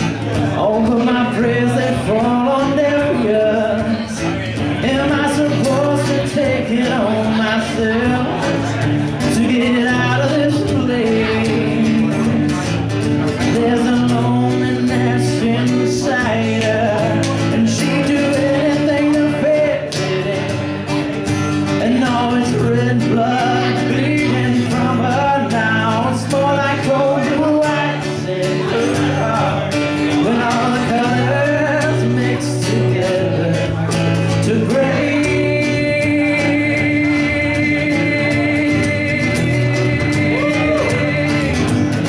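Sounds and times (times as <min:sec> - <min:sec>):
acoustic guitar strumming: 0:00.0 - 0:42.0
man singing: 0:00.0 - 0:42.0.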